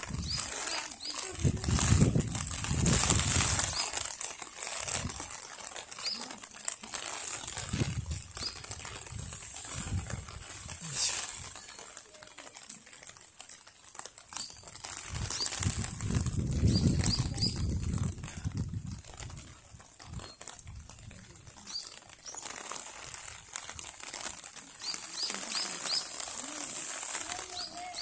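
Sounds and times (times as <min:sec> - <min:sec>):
soft rustling: 0:00.0 - 0:28.0.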